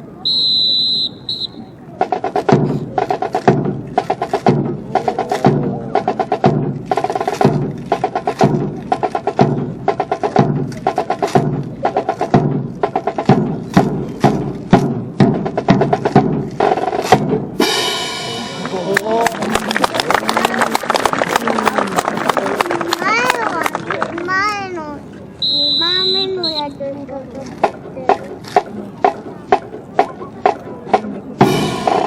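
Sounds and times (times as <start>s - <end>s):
marching drum cadence: 0.2s - 24.0s, 25.4s - 32.0s.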